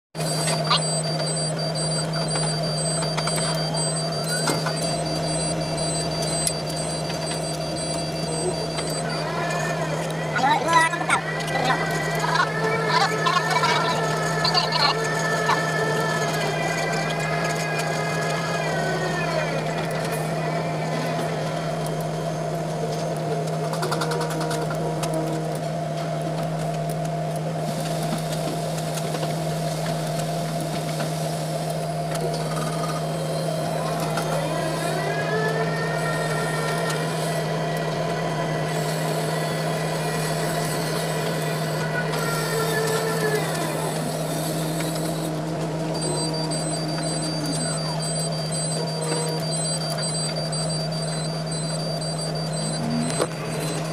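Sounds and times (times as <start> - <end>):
crane motor hum and whine: 0.2 - 53.9.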